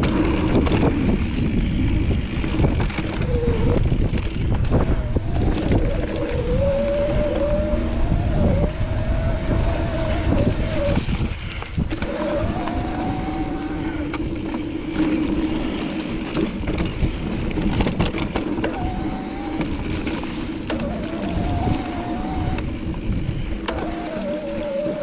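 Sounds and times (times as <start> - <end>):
electric bike motor whining: 0.0 - 25.0
rattles and clicks from trail: 0.0 - 25.0
wind rumbling on microphone: 0.0 - 25.0.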